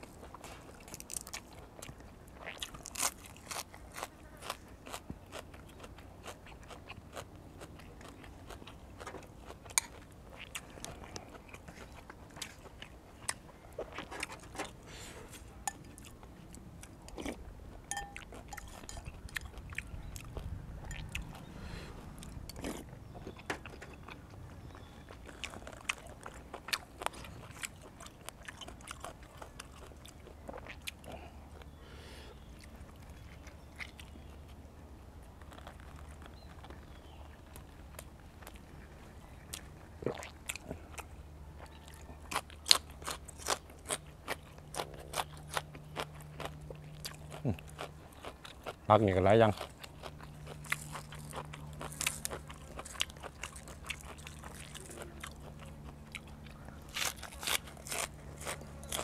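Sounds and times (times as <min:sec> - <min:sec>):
person chewing raw vegetables: 0:00.0 - 0:59.0.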